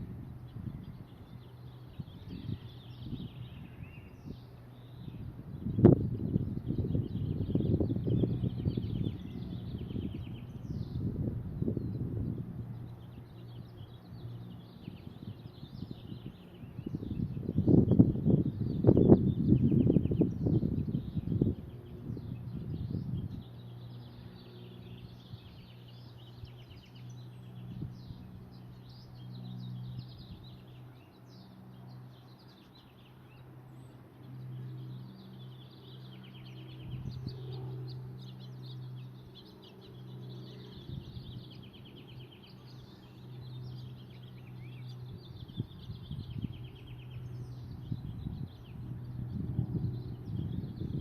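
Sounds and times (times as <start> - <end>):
songbirds chirping and trilling: 0.0 - 51.0
steady low hum: 0.0 - 51.0.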